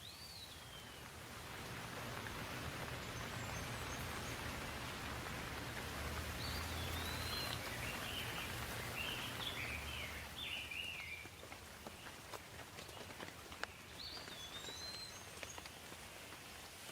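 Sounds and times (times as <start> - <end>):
bird chirping: 0.0 - 1.1, 2.5 - 12.2, 12.9 - 15.9
rain falling: 0.0 - 16.9.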